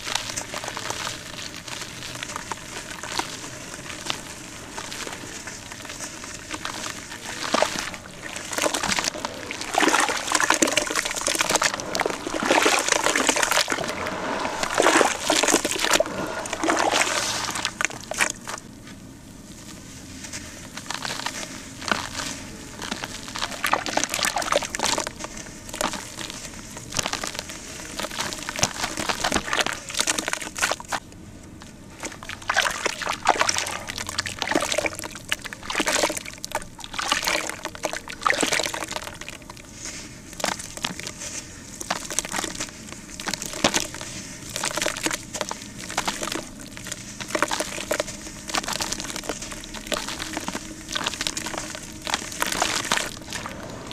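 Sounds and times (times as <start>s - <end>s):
dry cement crumbling into water: 0.0s - 18.8s, 20.8s - 53.9s
wet paste squishing and sloshing: 0.0s - 53.9s.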